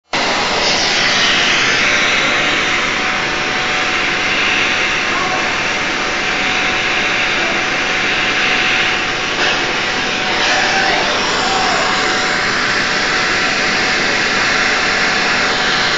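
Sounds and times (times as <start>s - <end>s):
gas torch flame hissing: 0.1s - 15.9s.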